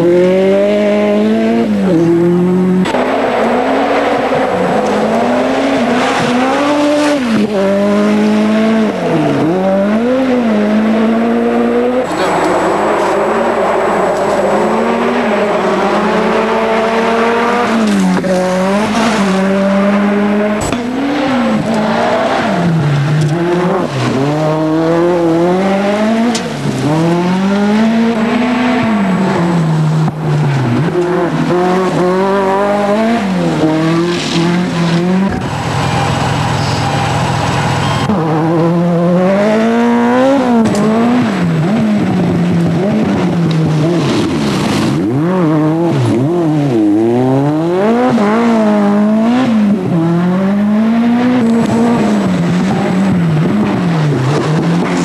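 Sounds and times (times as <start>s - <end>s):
rally car engines at full throttle: 0.0s - 55.0s.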